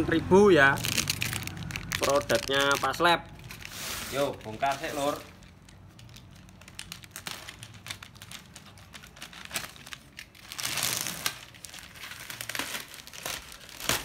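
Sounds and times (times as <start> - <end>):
plastic bag crinkling: 0.7 - 14.0.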